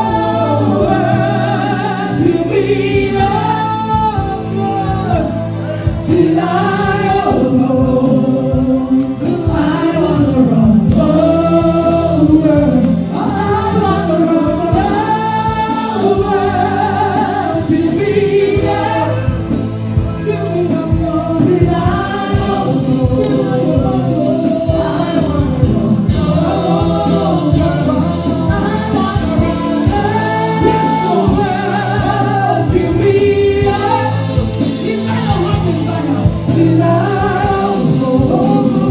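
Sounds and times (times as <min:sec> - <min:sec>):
congregation singing: 0:00.0 - 0:38.9
instrumental backing with beat: 0:00.0 - 0:38.9
woman singing into microphone: 0:00.0 - 0:38.9.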